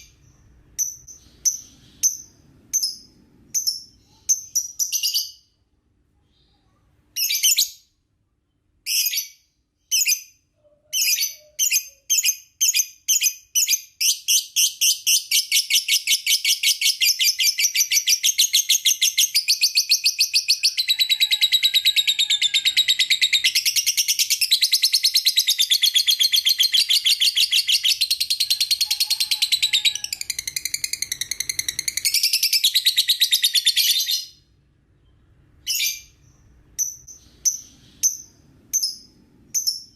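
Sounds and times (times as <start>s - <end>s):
lovebird chirping and trilling: 0.0s - 5.6s, 7.2s - 8.0s, 8.8s - 34.5s, 35.1s - 39.9s.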